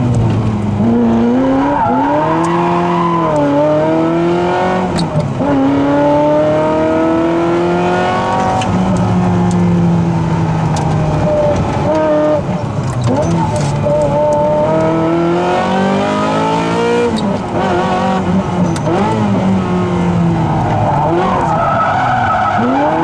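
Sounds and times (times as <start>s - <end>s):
car engine revving through gears: 0.0s - 23.0s.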